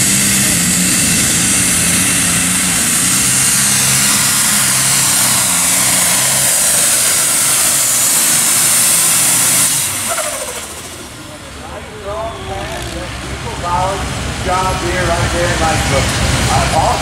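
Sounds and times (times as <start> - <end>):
tractor diesel engine at full power: 0.0 - 17.0.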